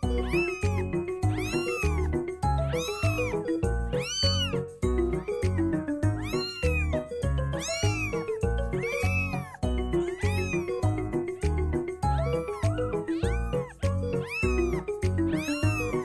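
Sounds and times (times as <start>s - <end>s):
kitten crying: 0.0s - 16.0s.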